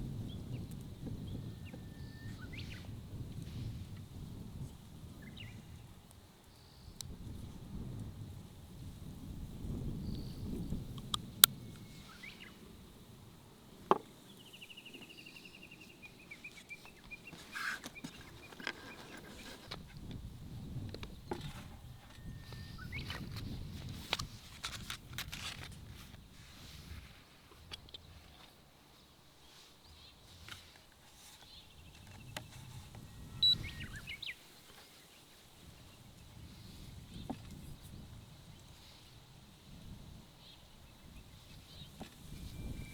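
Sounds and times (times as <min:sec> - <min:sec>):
songbird trill: 0:00.0 - 0:08.1, 0:09.6 - 0:24.3, 0:27.6 - 0:42.9.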